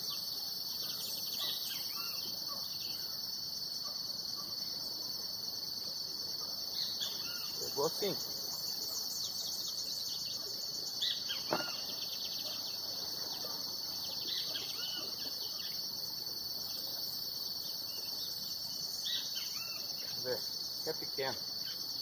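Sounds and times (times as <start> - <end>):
insect chorus trilling: 0.0 - 22.0.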